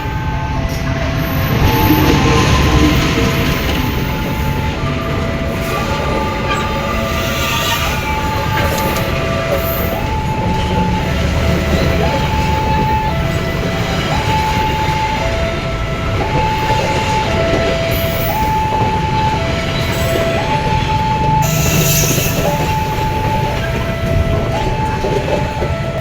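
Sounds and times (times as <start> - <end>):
train rumbling past: 0.0 - 26.0
two-note level-crossing alarm: 0.0 - 26.0.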